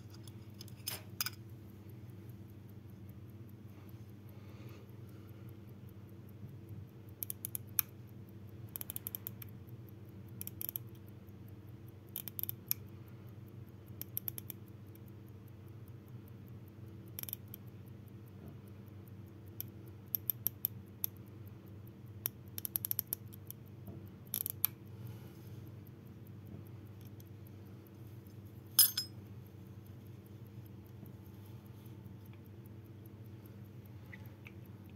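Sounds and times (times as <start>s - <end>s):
pocket watch clicking: 0.0s - 34.9s
steady low hum: 0.0s - 34.9s.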